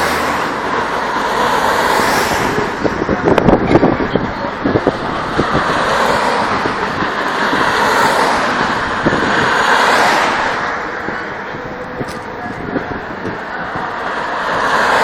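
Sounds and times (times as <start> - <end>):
car passing on road: 0.0 - 15.0.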